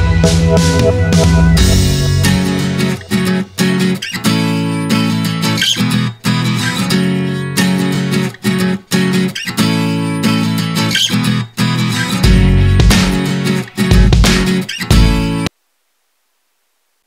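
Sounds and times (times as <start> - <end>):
strummed acoustic guitar music: 0.0 - 15.5.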